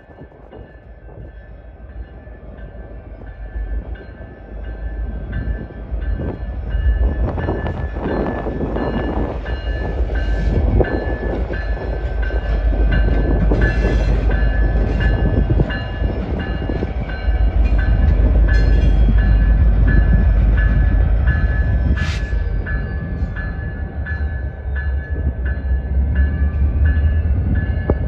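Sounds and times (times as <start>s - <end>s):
locomotive engine rumbling: 0.0s - 28.0s
locomotive bell ringing: 0.6s - 28.0s.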